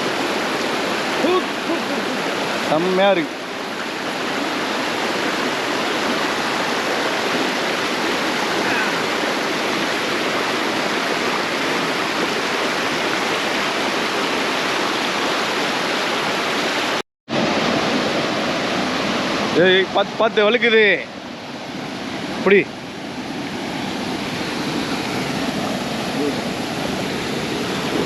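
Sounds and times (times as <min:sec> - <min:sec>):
waterfall pouring over rocks: 0:00.0 - 0:21.1, 0:21.8 - 0:28.0.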